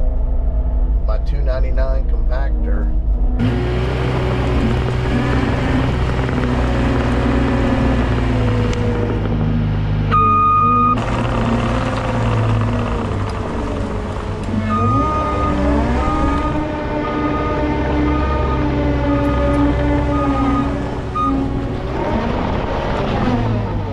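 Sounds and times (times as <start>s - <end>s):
diesel engine running: 3.4s - 23.9s.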